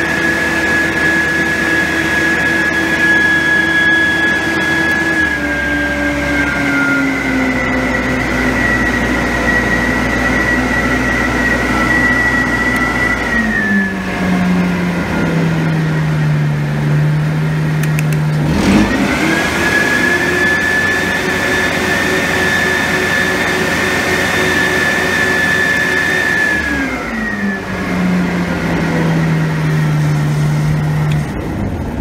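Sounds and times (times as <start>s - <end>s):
cleaning machine engine and blower: 0.0s - 32.0s
high whine: 0.0s - 32.0s.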